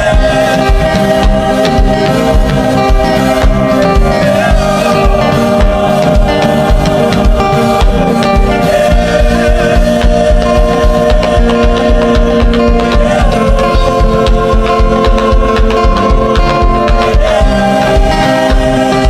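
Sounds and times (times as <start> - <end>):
gospel worship music: 0.0 - 19.0.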